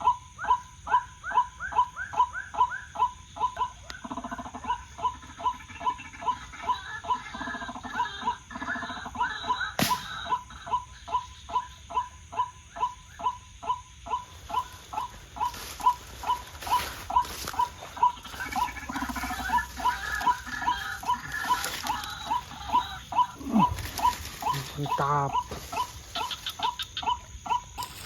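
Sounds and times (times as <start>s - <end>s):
waterhen calling: 1.7s - 28.0s.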